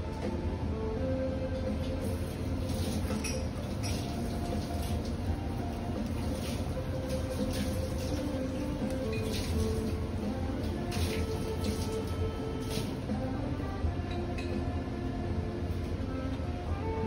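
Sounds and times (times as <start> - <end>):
ambient music with held notes: 0.0 - 17.0
steady low hum: 0.0 - 17.0.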